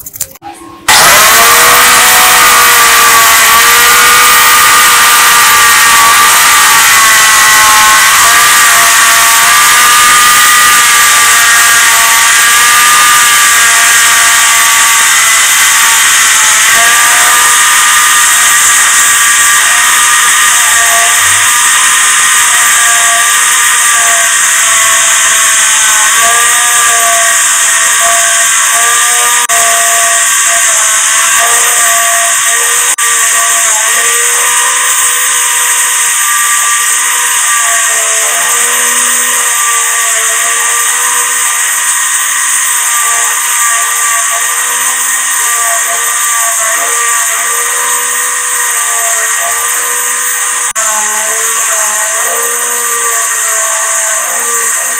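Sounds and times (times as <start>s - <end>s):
angle grinder high-pitched whine: 0.0s - 54.9s.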